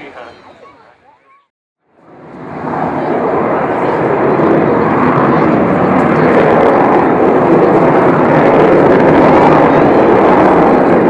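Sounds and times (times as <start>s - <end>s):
jet bomber roaring past: 1.8s - 11.0s.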